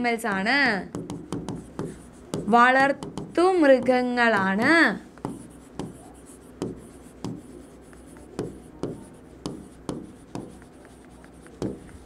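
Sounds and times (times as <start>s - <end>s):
stylus tapping on a screen: 0.2s - 12.0s.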